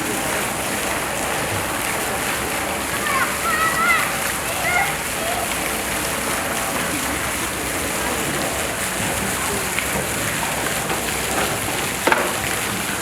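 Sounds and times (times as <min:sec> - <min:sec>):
faint voices: 0:00.0 - 0:13.0
rushing water: 0:00.0 - 0:13.0.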